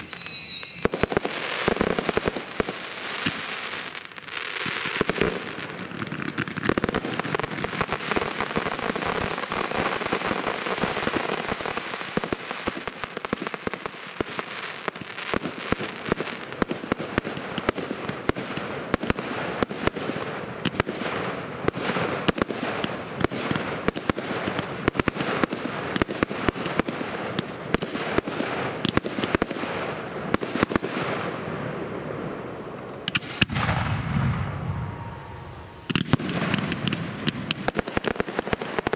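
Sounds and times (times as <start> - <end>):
fireworks cracking: 0.0 - 38.9.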